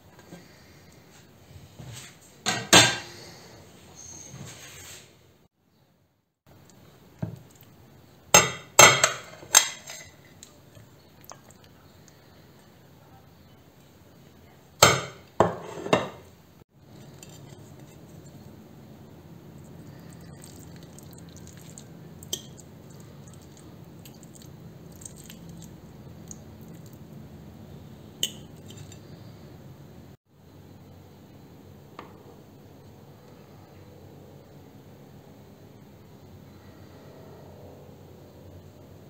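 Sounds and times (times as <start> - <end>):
faint steady hum: 0.0 - 4.6, 5.2 - 39.0.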